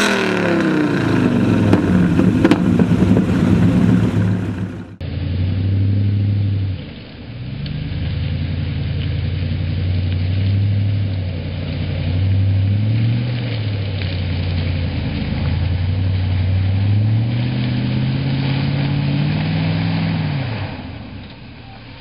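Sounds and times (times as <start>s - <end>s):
truck engine at low revs: 0.0s - 22.0s.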